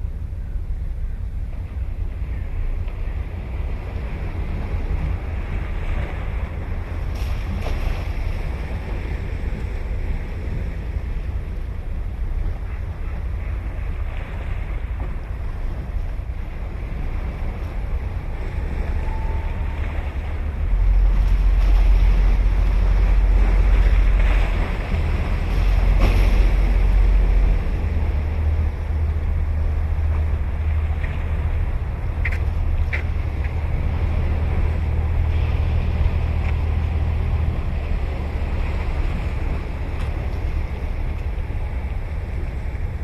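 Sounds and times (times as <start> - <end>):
ocean waves washing on shore: 0.0 - 43.0
wind rumbling on microphone: 0.0 - 43.0.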